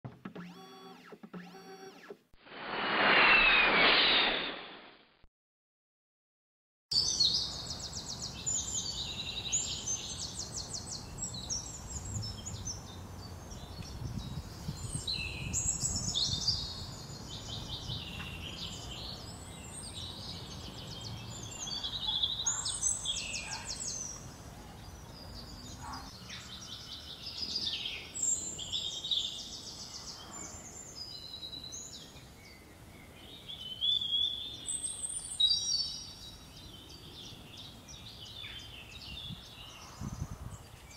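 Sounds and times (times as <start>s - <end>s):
songbirds singing: 7.0s - 40.9s.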